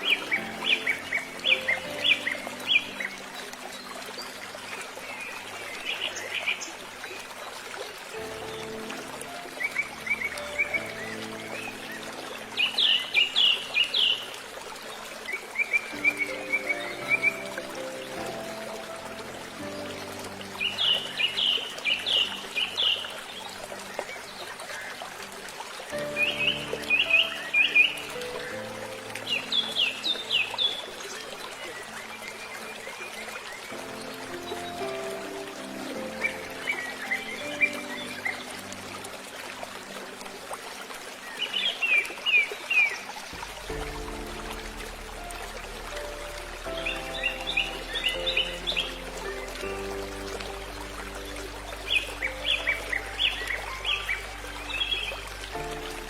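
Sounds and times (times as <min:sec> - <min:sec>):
background music with held notes: 0:00.0 - 0:56.0.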